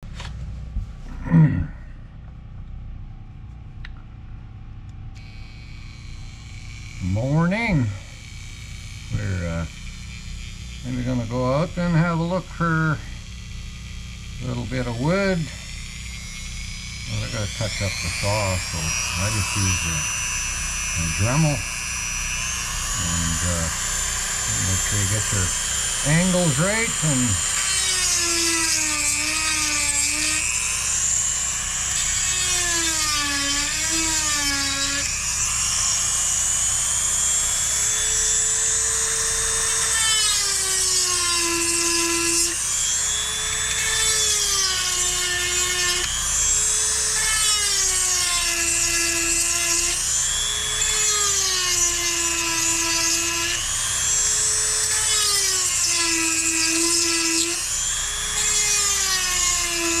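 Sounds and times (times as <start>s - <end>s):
rotary tool motor whine: 0.0s - 60.0s.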